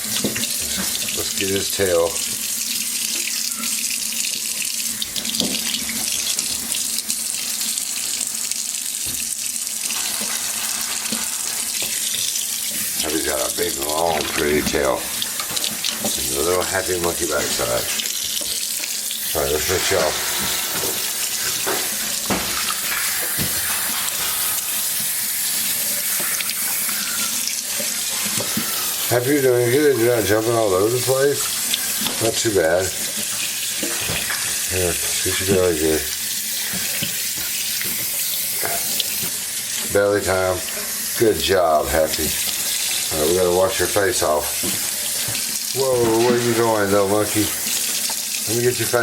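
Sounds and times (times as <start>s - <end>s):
tap water running into sink: 0.0s - 49.0s.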